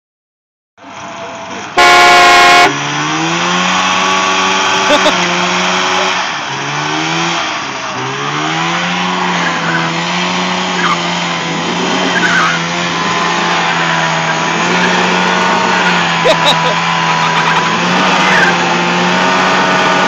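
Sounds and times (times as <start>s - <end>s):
two-stroke engine at high revs: 1.3s - 20.0s.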